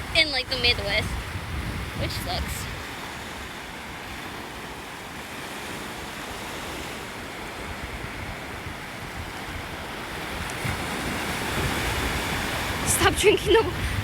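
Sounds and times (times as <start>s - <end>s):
ocean surf washing in: 0.0s - 14.0s.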